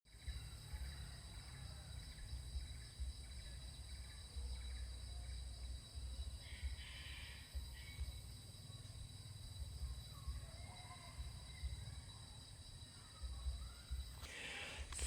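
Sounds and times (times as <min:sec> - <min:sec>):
insects droning: 0:00.1 - 0:15.0.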